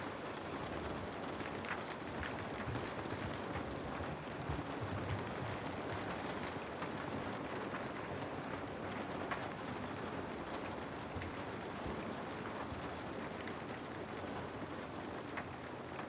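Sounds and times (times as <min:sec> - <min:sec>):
faint drips and patters: 0:00.0 - 0:16.0.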